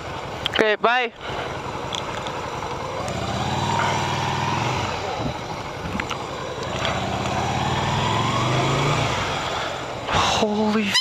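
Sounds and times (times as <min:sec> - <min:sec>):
motorcycle engine accelerating: 0:01.2 - 0:10.6.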